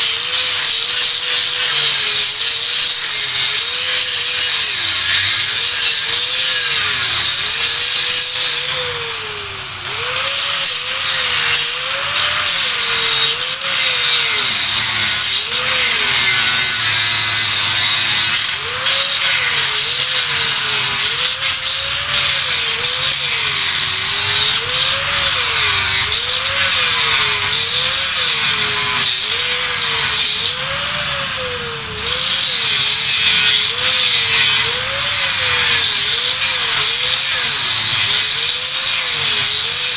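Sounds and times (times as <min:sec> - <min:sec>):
grinder grinding metal: 0:00.0 - 0:39.9.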